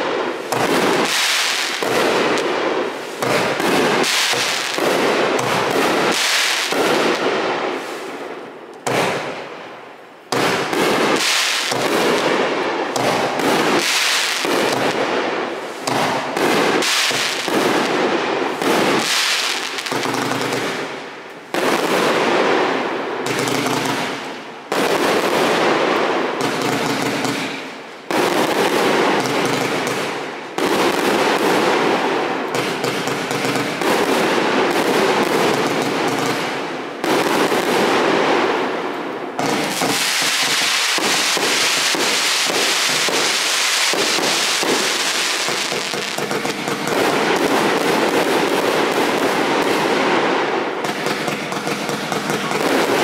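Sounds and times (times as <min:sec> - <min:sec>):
fireworks shots and bursts: 0:00.0 - 0:53.0.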